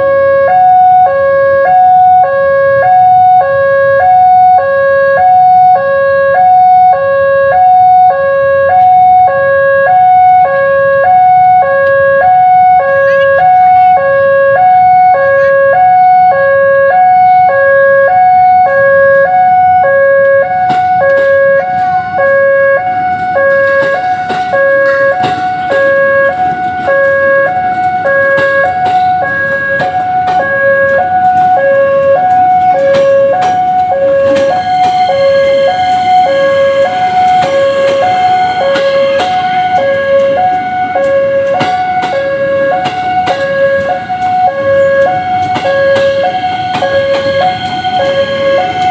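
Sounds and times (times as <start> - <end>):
level crossing alarm: 0.0 - 48.9
train rumbling and clattering: 0.0 - 48.9.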